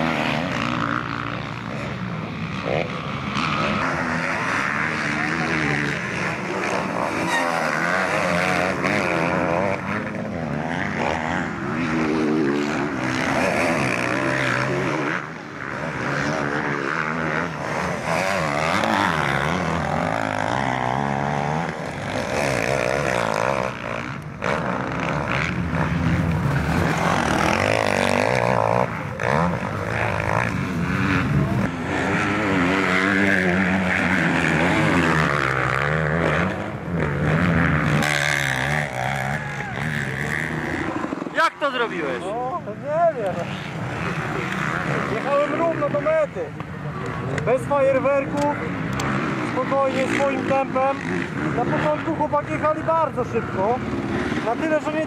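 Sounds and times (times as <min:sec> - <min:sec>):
motocross engines revving: 0:00.0 - 0:55.0.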